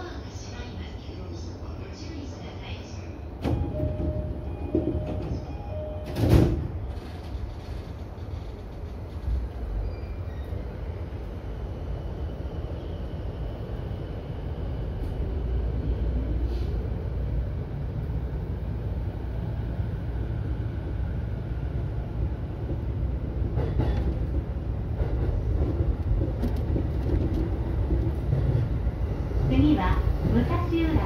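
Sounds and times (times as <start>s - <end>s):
train wheels rumbling on rails: 3.4s - 31.0s.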